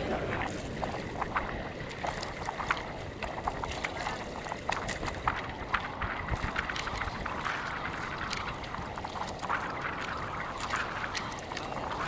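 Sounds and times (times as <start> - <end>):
water noise around boat: 0.0 - 12.0
wind: 0.0 - 12.0.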